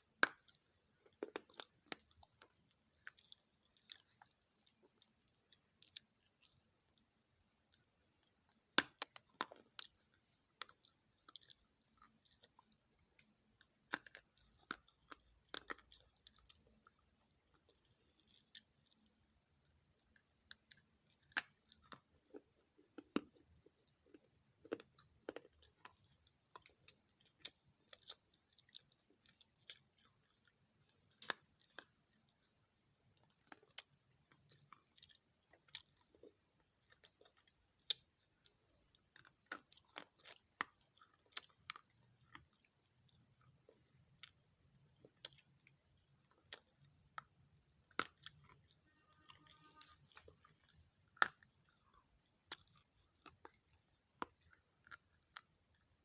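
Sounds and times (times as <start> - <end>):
soft chewing: 0.0 - 56.0.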